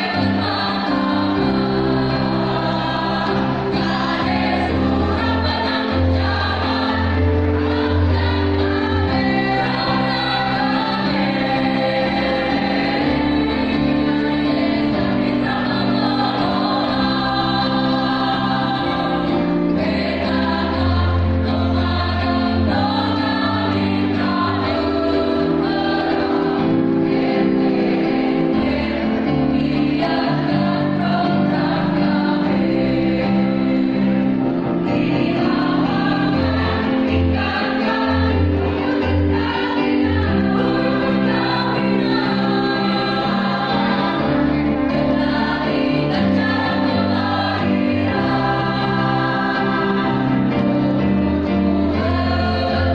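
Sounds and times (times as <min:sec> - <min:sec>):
choir singing: 0:00.0 - 0:52.9
musical accompaniment with bass: 0:00.0 - 0:52.9.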